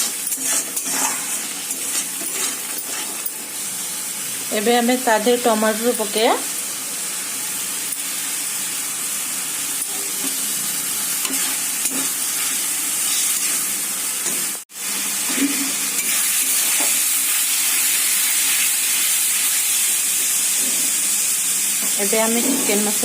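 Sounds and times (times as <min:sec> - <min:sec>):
tomato sizzling in hot oil: 0:00.0 - 0:23.0.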